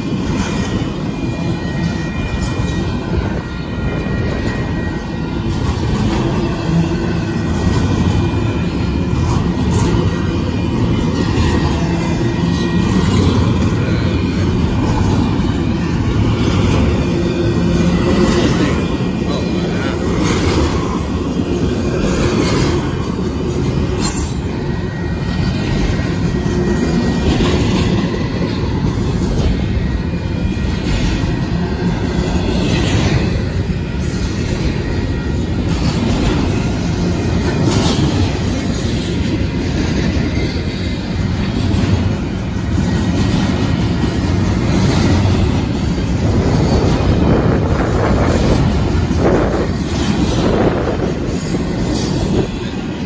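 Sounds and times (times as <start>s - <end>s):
freight train rumbling past: 0.0s - 53.0s
wheels clacking over rail joints: 0.0s - 53.0s.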